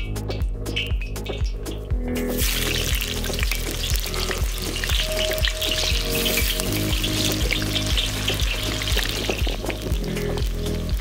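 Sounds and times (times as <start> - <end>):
background music with steady beat: 0.0 - 11.0
food sizzling in hot oil: 2.2 - 11.0.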